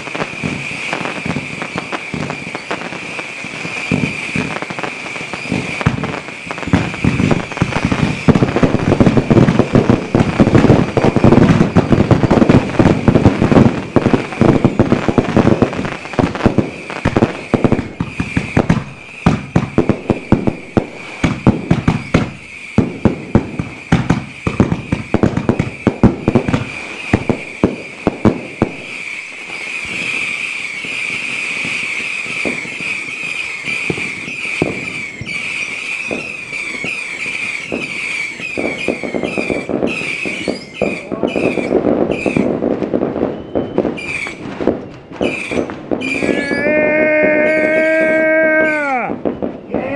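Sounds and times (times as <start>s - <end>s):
firework fountains crackling and popping: 0.0s - 49.9s.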